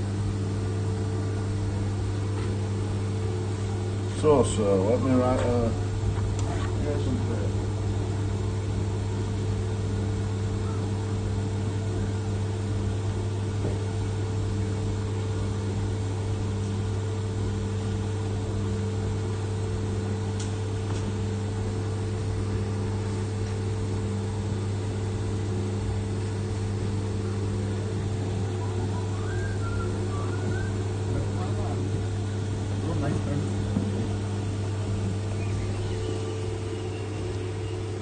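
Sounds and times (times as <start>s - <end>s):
milling machine humming: 0.0s - 38.0s.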